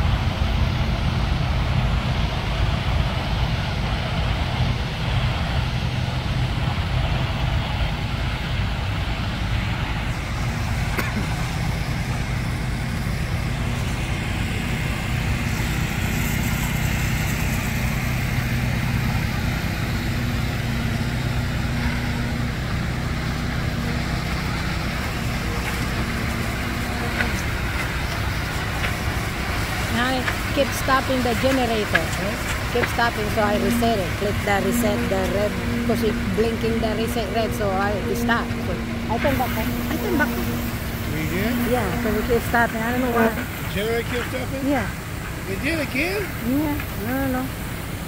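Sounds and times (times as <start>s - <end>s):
diesel truck engines running: 0.0s - 48.0s.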